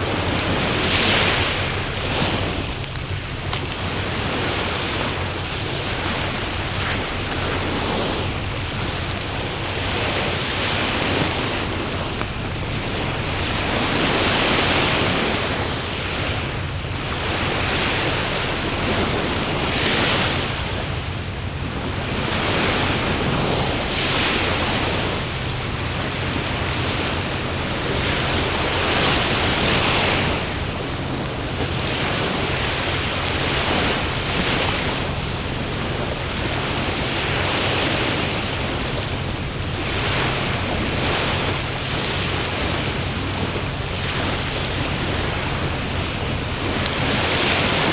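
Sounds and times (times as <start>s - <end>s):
bonfire rushing and crackling: 0.0s - 47.9s.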